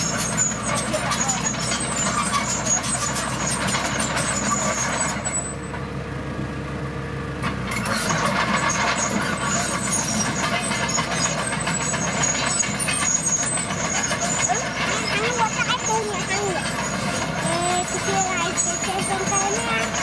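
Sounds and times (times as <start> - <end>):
high squeaks: 0.0 - 5.7, 7.8 - 20.0
steel tracks clanking: 0.0 - 5.8, 7.4 - 20.0
bulldozer diesel engine under load: 0.0 - 20.0.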